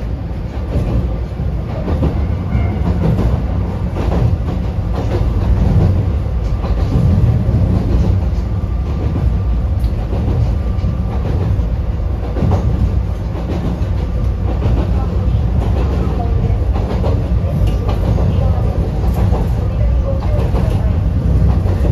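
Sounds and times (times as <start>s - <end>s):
track clacks and knocks: 0.0s - 21.9s
wheels rumbling on rail: 0.0s - 21.9s.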